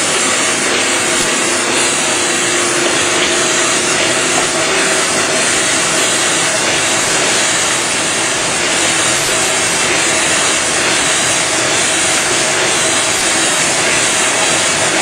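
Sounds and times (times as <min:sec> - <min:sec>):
printing machine hissing: 0:00.0 - 0:15.0.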